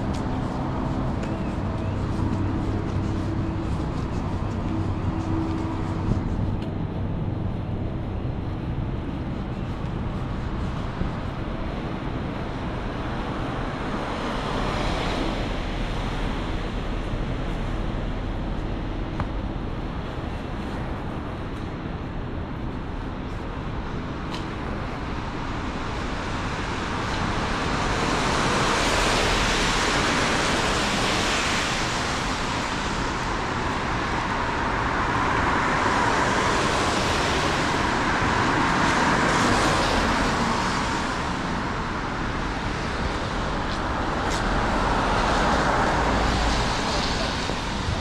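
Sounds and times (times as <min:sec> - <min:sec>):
cars passing on city road: 0:00.0 - 0:48.0.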